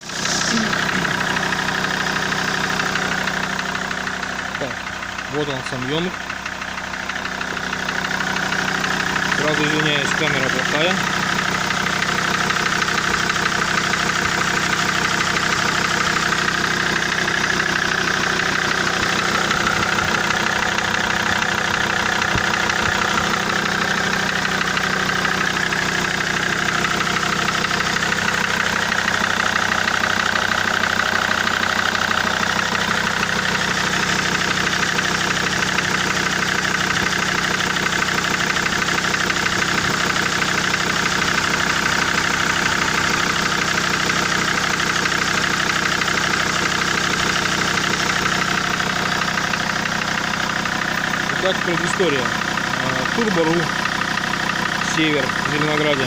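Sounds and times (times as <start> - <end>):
diesel engine idling with knock: 0.0 - 56.0.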